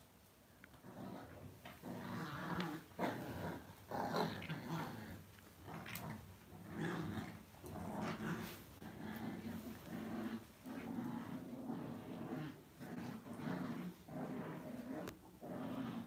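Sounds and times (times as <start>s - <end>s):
dogs growling: 0.7s - 16.0s.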